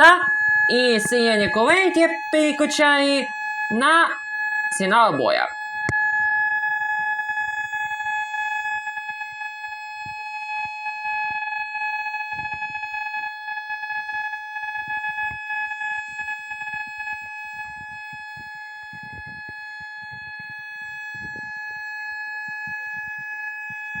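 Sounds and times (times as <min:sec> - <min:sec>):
siren steady tone: 0:00.0 - 0:24.0.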